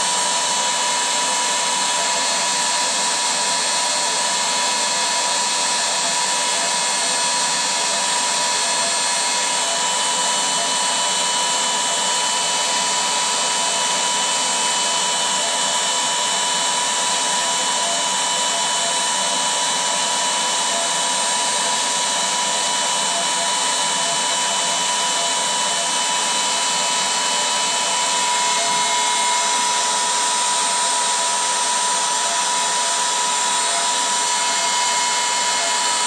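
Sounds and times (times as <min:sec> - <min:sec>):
electric air pump whining: 0:00.0 - 0:36.0.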